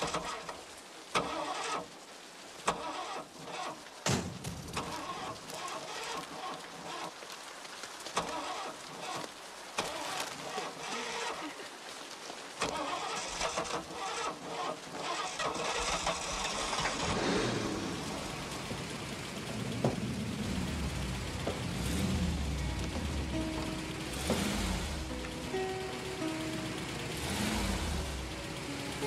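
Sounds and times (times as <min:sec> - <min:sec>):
car engine starting and running: 0:00.0 - 0:07.4, 0:08.1 - 0:11.5, 0:12.6 - 0:29.0
steady rain: 0:00.0 - 0:29.0.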